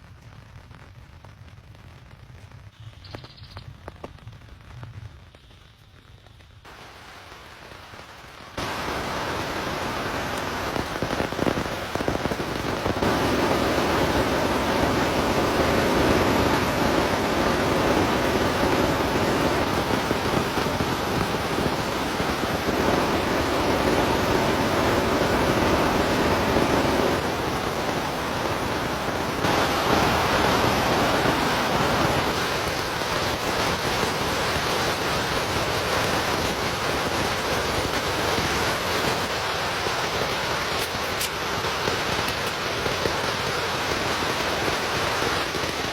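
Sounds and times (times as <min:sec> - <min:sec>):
heavy rain falling: 0:06.3 - 0:45.9.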